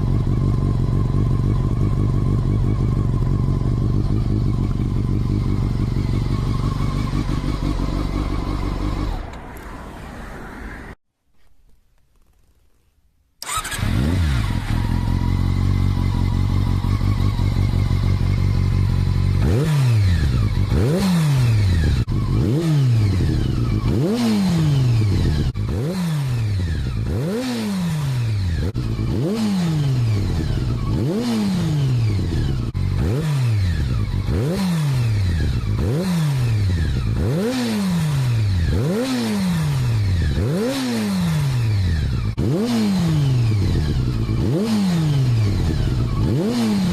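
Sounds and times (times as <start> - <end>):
motorcycle engine idling: 0.0 - 9.3, 13.4 - 24.1, 24.8 - 39.0, 43.0 - 46.9
motorcycle engine revving: 0.0 - 9.4, 13.4 - 46.9.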